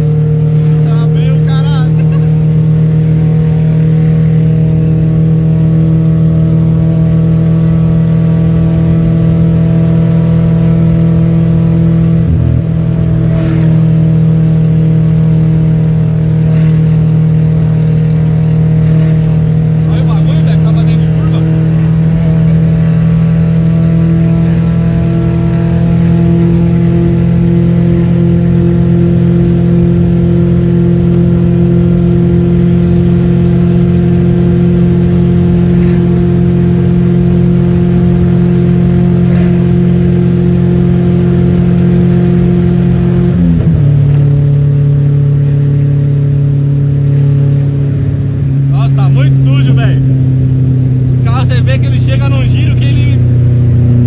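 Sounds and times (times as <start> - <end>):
car engine droning in cabin: 0.0 - 54.0.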